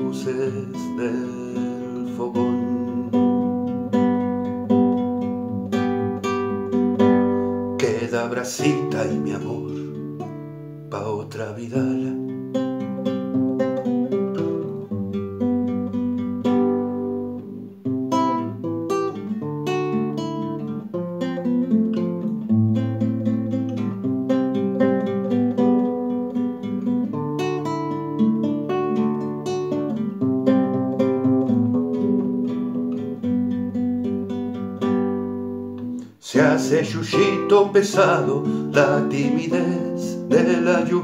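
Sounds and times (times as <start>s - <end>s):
classical guitar playing: 0.0s - 41.0s.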